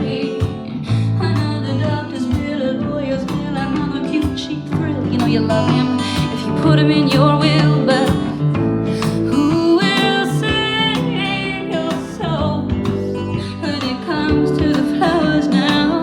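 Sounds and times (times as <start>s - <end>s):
song with singing and guitar: 0.0s - 16.0s.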